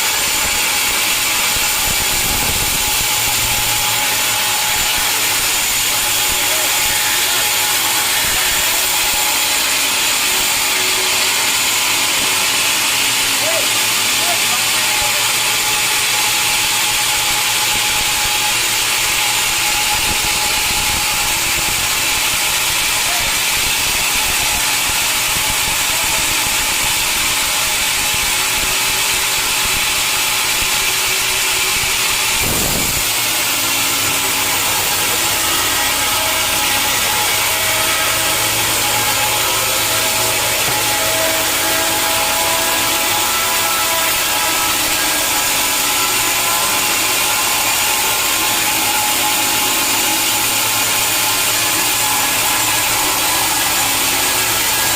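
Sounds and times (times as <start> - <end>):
saw cutting through log: 0.0 - 54.9
steady tones: 0.0 - 54.9.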